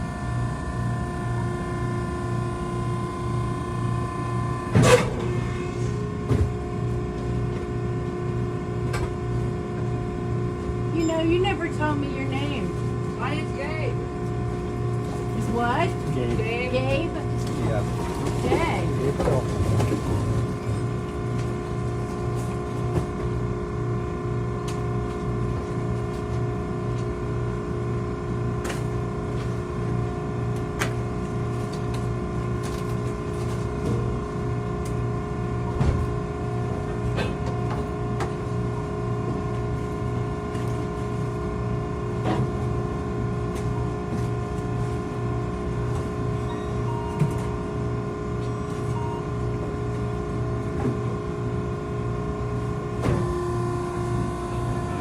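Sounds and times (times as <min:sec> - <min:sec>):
baler machine humming: 0:00.0 - 0:55.0.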